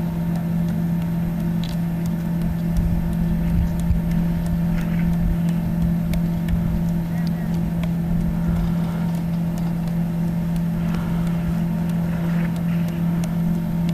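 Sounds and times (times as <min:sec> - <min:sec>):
faint clicks: 0:00.0 - 0:13.9
steady motor hum: 0:00.0 - 0:13.9
uneven low rumble: 0:00.0 - 0:13.9.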